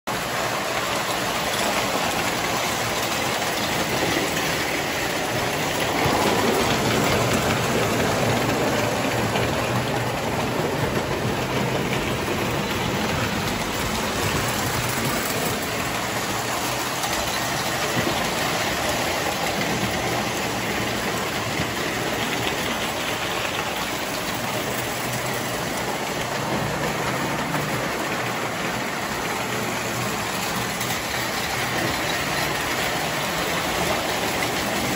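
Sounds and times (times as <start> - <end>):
toy train running on track: 0.1 - 34.9.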